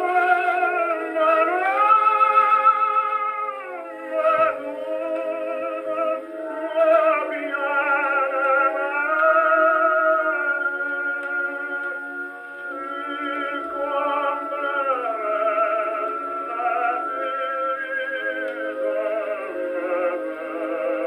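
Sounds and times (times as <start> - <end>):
tenor singing opera on gramophone: 0.0 - 21.0.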